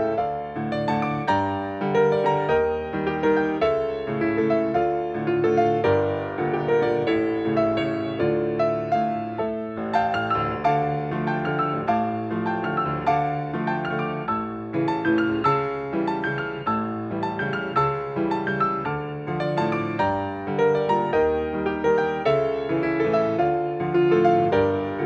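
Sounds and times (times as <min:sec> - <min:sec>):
solo piano classical tune: 0:00.0 - 0:25.0.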